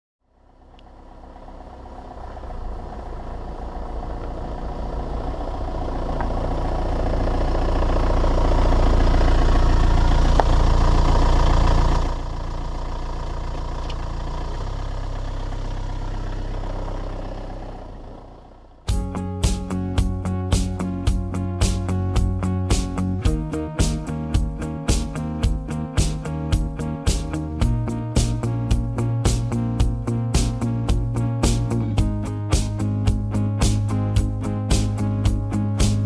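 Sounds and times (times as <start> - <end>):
car engine running: 0.2 - 36.0.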